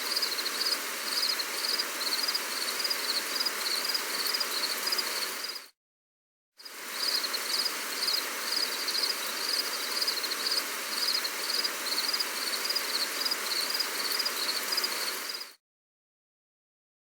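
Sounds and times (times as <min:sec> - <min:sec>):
insect chirping: 0:00.0 - 0:05.7, 0:06.6 - 0:15.6
rain hiss: 0:00.0 - 0:05.7, 0:06.6 - 0:15.6.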